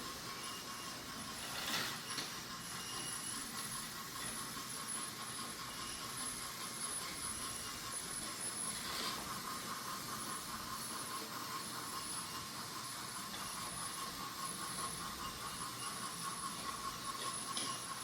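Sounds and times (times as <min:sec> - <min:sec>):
toy train clatter: 0:00.0 - 0:18.0
toy train motors whirring: 0:00.0 - 0:18.0.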